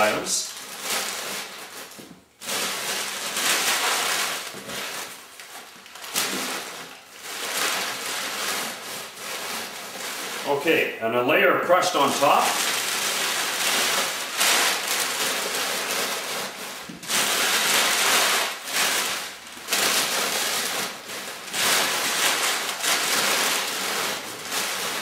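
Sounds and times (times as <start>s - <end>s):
packing paper crumpling: 0.0s - 10.6s, 11.7s - 25.0s.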